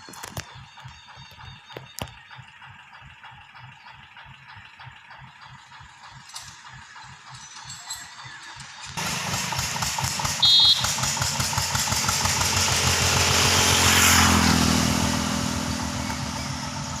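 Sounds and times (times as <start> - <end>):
faint tractor engine chugging: 0.0 - 17.0.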